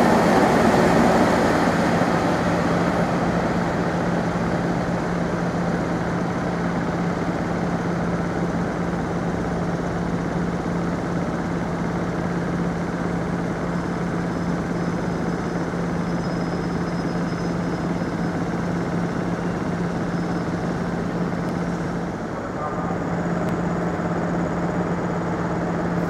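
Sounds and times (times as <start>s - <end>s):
train engine humming and rumbling: 0.0s - 26.0s.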